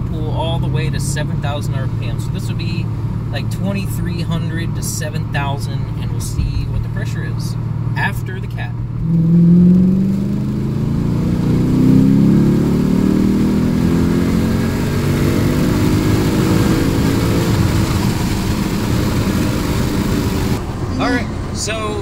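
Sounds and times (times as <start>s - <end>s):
car engine revving at full throttle: 0.0s - 22.0s
engine and road rumble: 0.0s - 22.0s.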